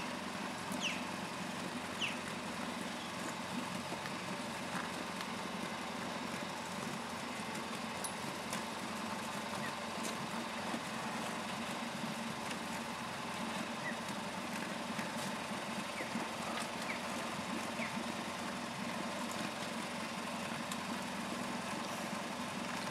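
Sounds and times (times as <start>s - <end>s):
engine hum: 0.0s - 22.9s.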